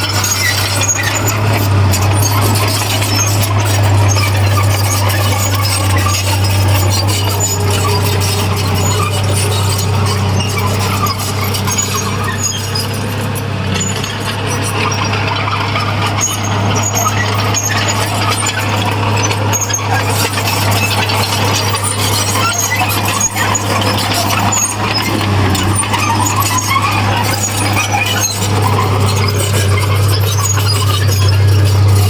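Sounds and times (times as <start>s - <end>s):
heavy diesel machinery running: 0.0s - 32.0s.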